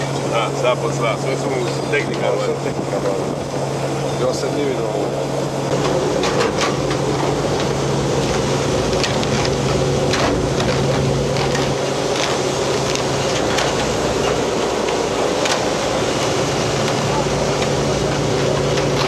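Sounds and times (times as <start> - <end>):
winch machinery hum: 0.0 - 19.0.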